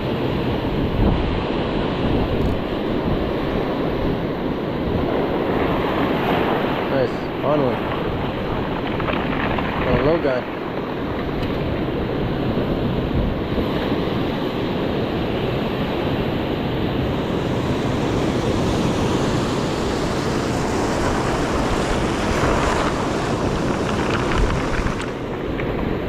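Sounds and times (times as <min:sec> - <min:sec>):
ocean surf breaking: 0:00.0 - 0:26.0
wind buffeting microphone: 0:00.0 - 0:26.0.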